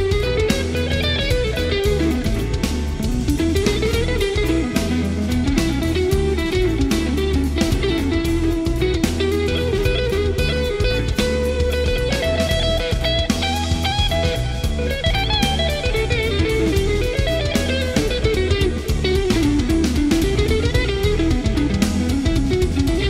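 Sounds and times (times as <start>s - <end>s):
bass: 0.0s - 23.0s
drums: 0.0s - 23.0s
electric guitar solo: 0.0s - 23.0s.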